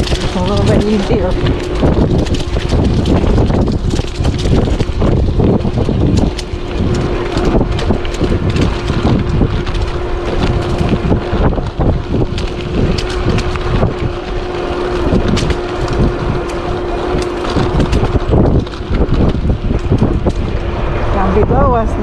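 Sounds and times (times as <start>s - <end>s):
electric motor whine: 0.0s - 22.0s
tyres crackling over leaves: 0.0s - 22.0s
wind rumbling on microphone: 0.0s - 22.0s.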